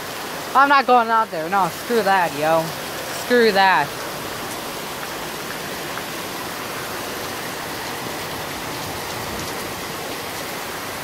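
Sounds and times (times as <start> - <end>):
very heavy rain pouring: 0.0 - 11.0.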